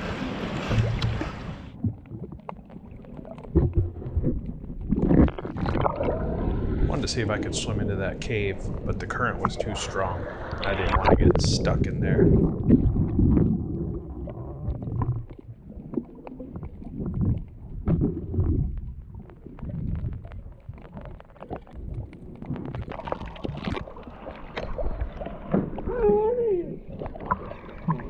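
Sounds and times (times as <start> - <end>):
underwater sloshing rumble: 0.0 - 28.0
underwater clicks and crackles: 0.6 - 28.0.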